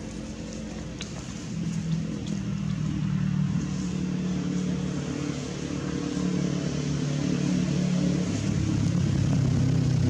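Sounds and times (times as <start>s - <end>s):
motor engine humming: 0.0s - 10.0s.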